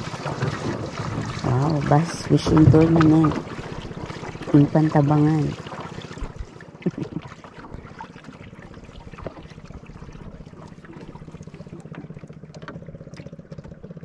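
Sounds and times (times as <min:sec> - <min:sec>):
small boat engine running: 0:00.0 - 0:14.0
water washing along hull: 0:00.0 - 0:14.0.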